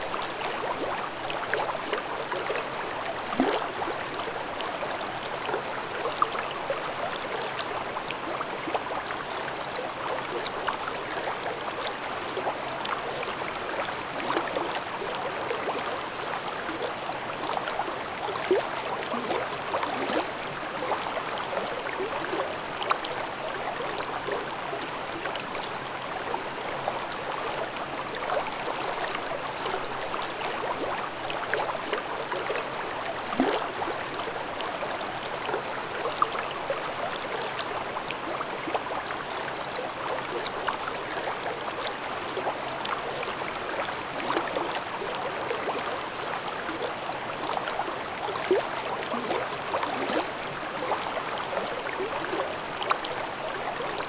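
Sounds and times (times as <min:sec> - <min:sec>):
brook babbling over rocks: 0:00.0 - 0:54.0.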